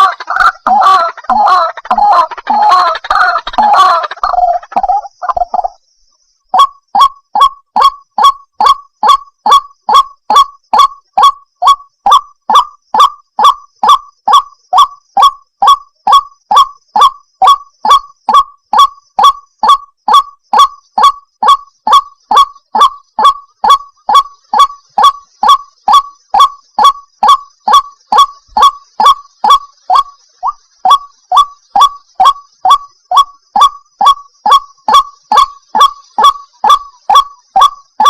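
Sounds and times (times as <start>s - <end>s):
waterhen calling wak notes: 0.0s - 5.9s, 6.5s - 38.0s.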